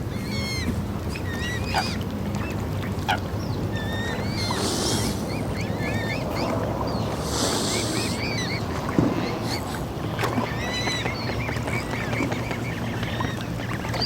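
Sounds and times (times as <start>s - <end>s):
waterfowl honking and squeaking: 0.0s - 14.0s.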